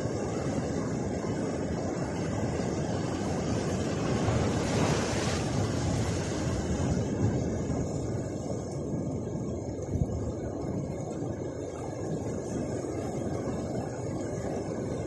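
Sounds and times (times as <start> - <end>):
ocean surf washing on beach: 0.0 - 15.0
wind rumbling on microphone: 0.0 - 15.0.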